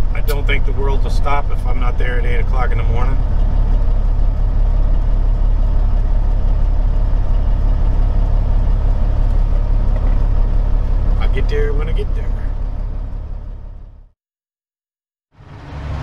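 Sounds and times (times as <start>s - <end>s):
diesel truck engine droning: 0.0s - 14.2s, 15.3s - 16.0s.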